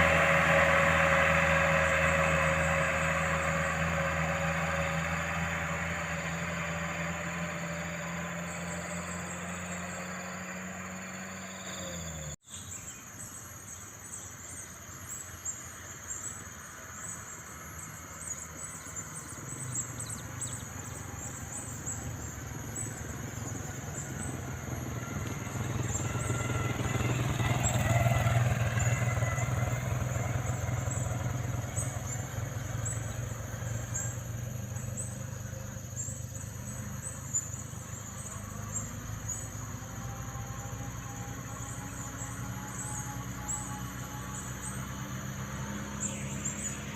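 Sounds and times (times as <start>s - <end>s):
vehicle engine running: 0.0s - 12.4s, 16.5s - 46.9s.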